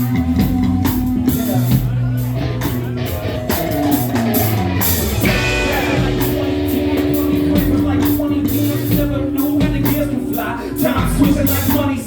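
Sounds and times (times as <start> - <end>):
drum and cymbal strikes: 0.0 - 12.0
guitar: 0.0 - 12.0
rock band playing: 0.0 - 12.0.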